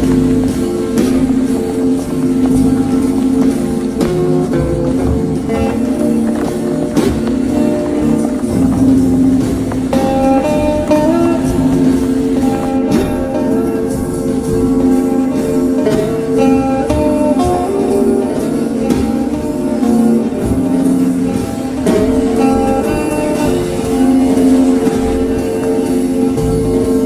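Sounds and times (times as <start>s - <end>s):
guitar background music: 0.0s - 27.0s.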